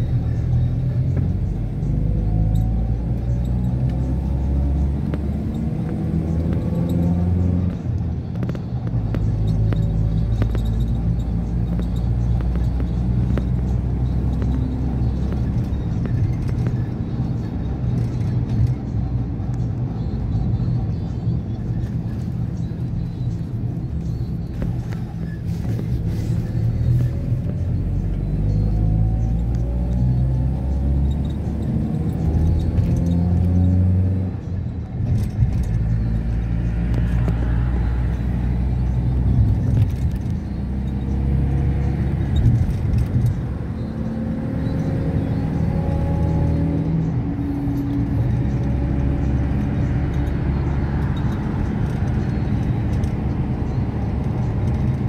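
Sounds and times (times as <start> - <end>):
vehicle engine accelerating: 0.0 - 55.0.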